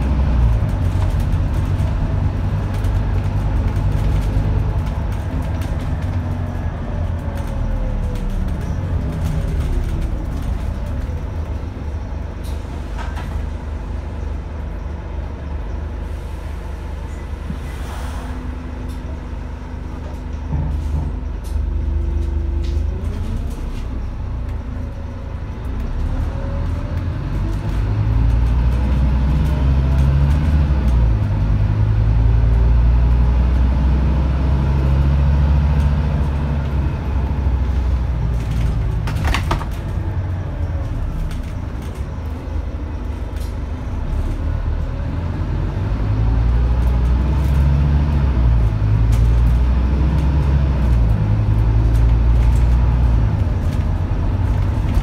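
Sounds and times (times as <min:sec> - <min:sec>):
bus engine rumble: 0:00.0 - 0:55.0
road noise: 0:00.0 - 0:55.0.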